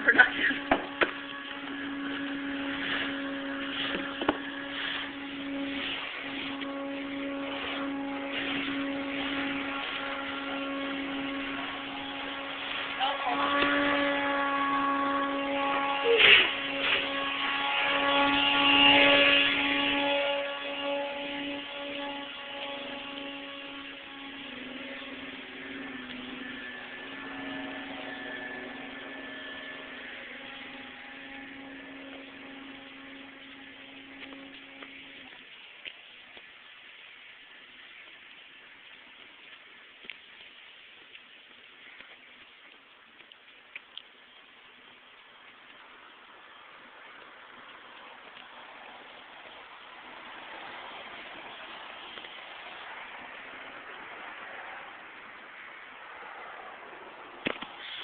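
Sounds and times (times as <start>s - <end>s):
small electric motor humming: 0.0s - 52.4s
noisy hiss: 0.0s - 58.0s.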